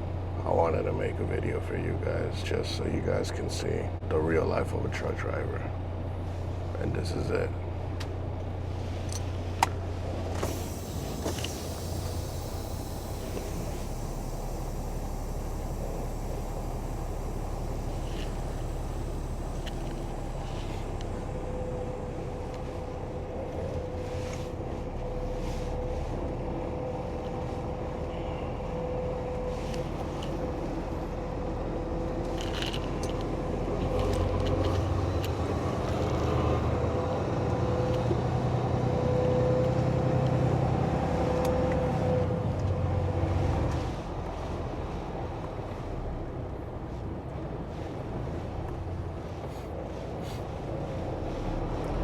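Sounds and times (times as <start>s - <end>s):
truck engine and road drone: 0.0s - 52.0s.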